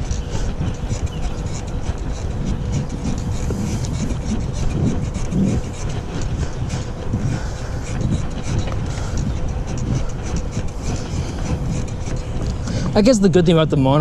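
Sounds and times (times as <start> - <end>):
small clicks and rattles: 0.0 - 13.4
bicycle rolling on pavement: 0.0 - 14.0
wind buffeting microphone: 0.0 - 14.0.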